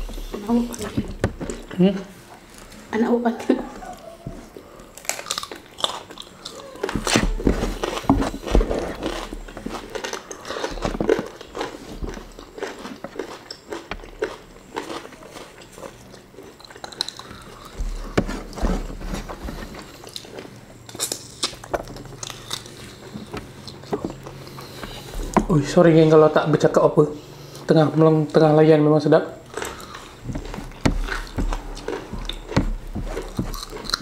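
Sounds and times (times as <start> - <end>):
people chewing crunchy food: 0.0 - 2.9, 3.5 - 28.5, 29.4 - 34.0.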